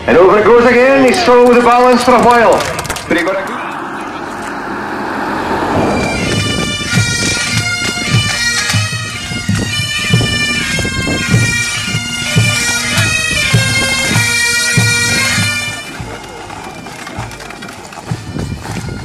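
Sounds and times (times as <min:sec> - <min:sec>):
bagpipes playing melody: 0:00.1 - 0:19.0.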